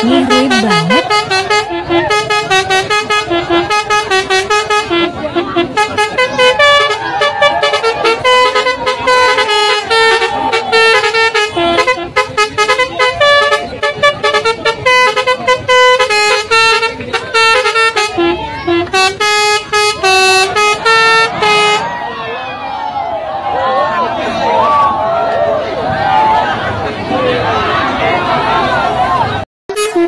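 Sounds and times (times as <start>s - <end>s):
musical bus horns honking tune: 0.0s - 30.0s.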